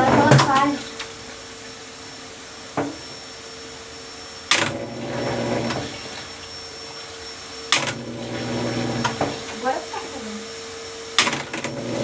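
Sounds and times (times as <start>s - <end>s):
washing machine drain pump humming: 0.0s - 12.0s.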